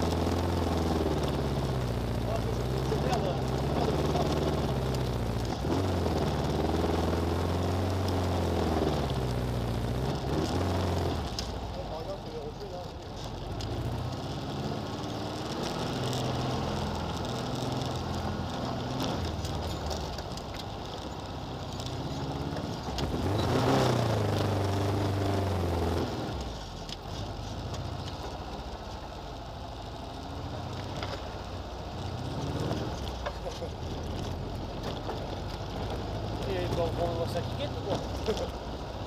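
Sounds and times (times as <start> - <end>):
off-road vehicle engine revving: 0.0 - 28.4, 30.0 - 39.0.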